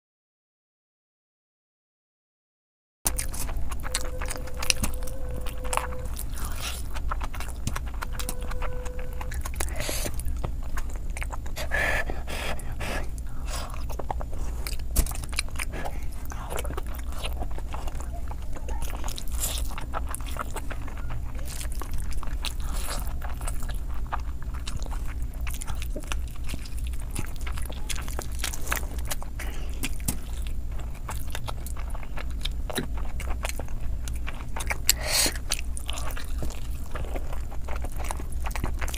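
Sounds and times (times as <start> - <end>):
steady low hum: 3.1 - 38.9
wet chewing and lip-smacking: 3.1 - 38.9.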